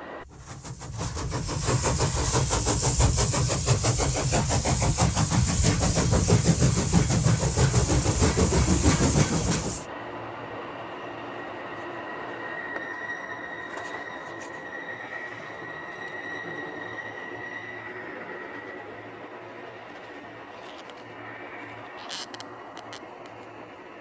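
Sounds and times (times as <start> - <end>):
train rumble and clatter: 0.2 - 24.0.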